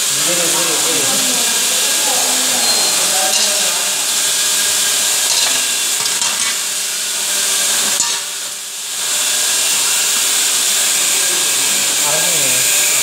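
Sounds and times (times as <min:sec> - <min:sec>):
steady loud hiss: 0:00.0 - 0:13.0.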